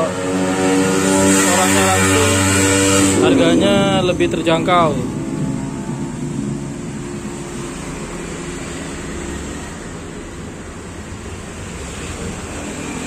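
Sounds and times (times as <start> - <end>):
road traffic: 0.0 - 13.0
vehicle engine hum: 0.0 - 13.0.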